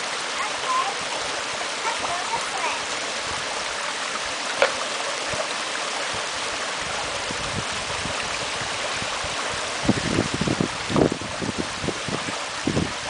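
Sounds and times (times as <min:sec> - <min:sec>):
creek and small waterfall rushing: 0:00.0 - 0:13.0.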